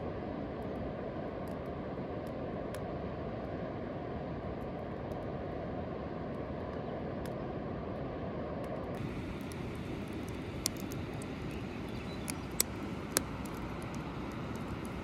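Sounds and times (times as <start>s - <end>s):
outdoor ambient rushing noise: 0.0s - 15.0s.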